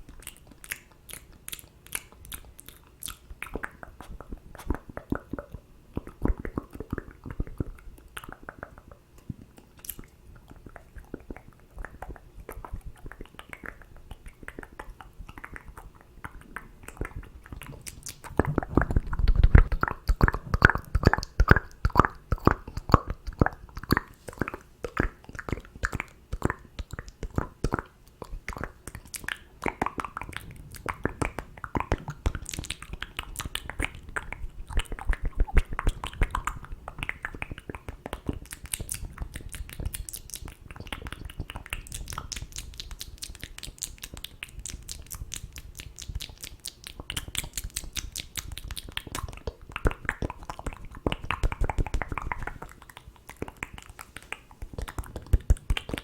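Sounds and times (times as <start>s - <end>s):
wet mouth clicks and lip smacking: 0.0s - 56.0s.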